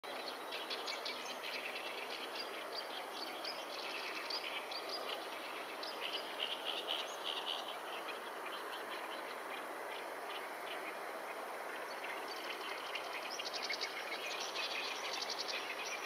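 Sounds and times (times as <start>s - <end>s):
background hiss: 0.1s - 16.0s
songbirds chirping: 0.1s - 16.0s.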